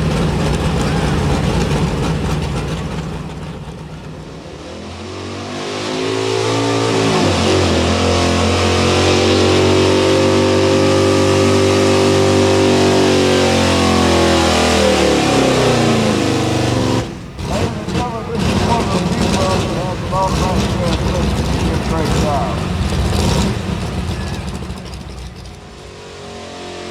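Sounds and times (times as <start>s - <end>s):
truck engine revving under load: 0.0s - 26.9s.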